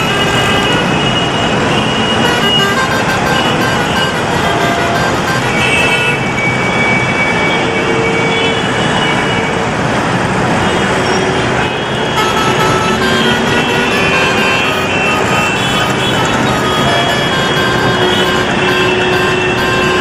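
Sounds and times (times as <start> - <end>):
car horn toots: 0.0 - 9.3, 11.2 - 20.0
road traffic din: 0.0 - 20.0.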